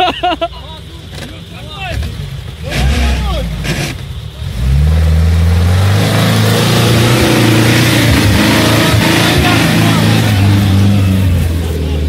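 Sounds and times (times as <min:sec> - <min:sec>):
vehicle engine revving: 0:00.8 - 0:12.0.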